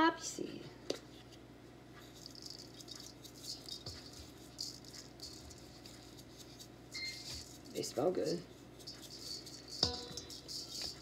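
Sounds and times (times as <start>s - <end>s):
seeds rattling in glass jar: 2.1s - 11.0s.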